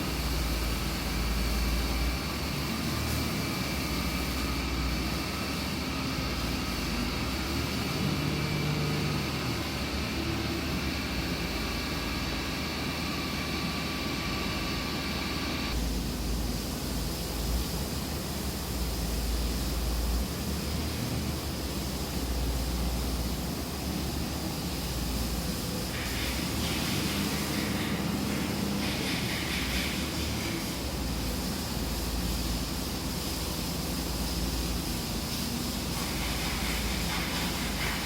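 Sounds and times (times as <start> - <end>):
high machine whine: 0.0 - 38.0.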